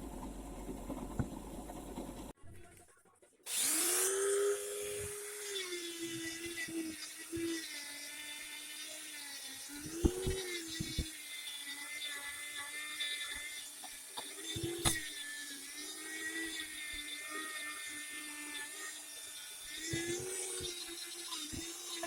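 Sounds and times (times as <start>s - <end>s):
electric power tool running: 3.5s - 22.0s.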